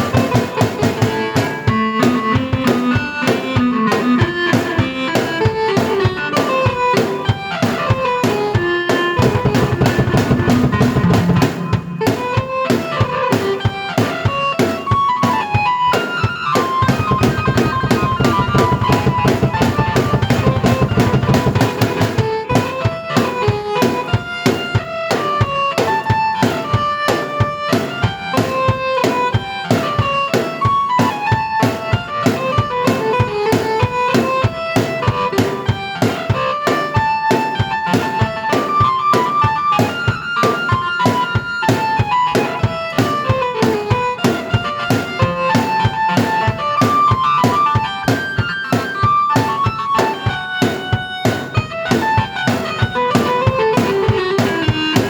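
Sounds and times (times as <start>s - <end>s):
keyboard melody: 0.0s - 55.0s
kick and snare beat: 0.0s - 55.0s.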